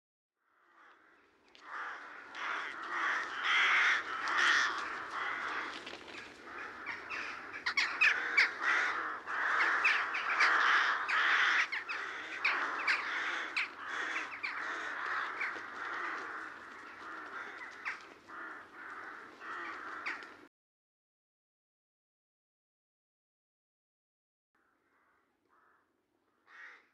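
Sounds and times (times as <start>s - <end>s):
crows cawing: 0.6s - 20.5s, 24.6s - 26.9s.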